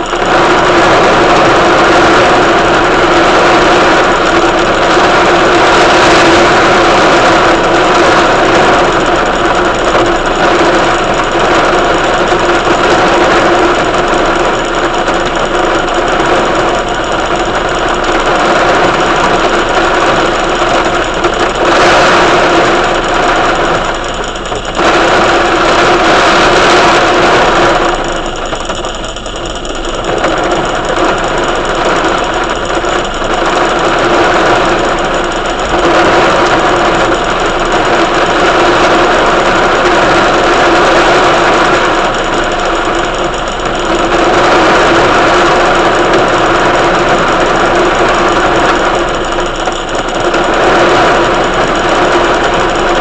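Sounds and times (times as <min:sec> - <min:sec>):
heavy rain pouring: 0:00.0 - 0:53.0
steady low hum: 0:00.0 - 0:53.0.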